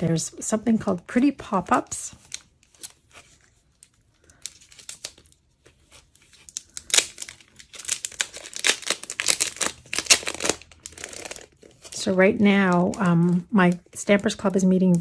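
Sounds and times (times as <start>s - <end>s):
packaging crinkling: 2.2s - 14.5s.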